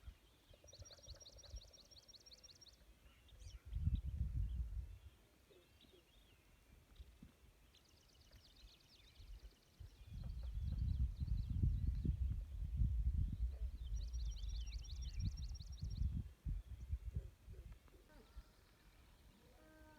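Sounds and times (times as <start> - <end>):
songbirds trilling: 0.0 - 7.0, 7.6 - 19.9.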